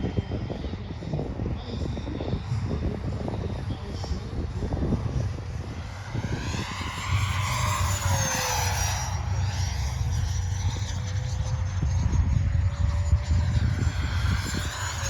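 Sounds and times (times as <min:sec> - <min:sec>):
electric jet fan whine: 0:00.0 - 0:15.0.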